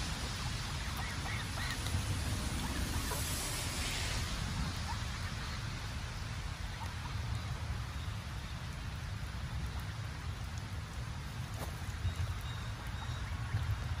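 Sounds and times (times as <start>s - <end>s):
light rain on wet pavement: 0.0s - 14.0s.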